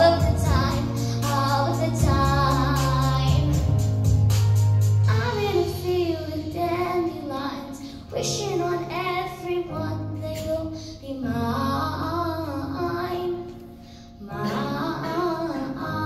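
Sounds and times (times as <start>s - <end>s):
girl singing into microphone: 0.0s - 4.0s, 5.1s - 16.0s.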